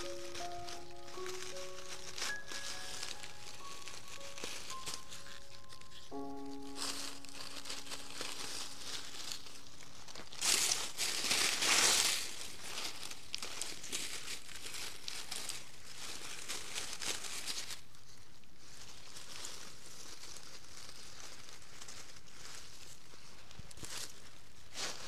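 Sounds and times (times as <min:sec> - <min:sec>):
dry leaves crackling and rustling: 0:00.0 - 0:25.0.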